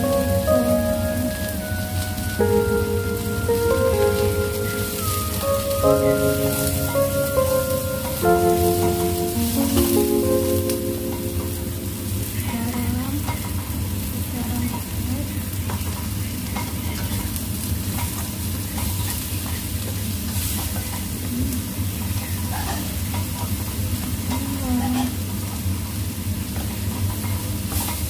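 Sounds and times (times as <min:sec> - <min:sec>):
vegetables sizzling in frying pan: 0:00.0 - 0:28.0.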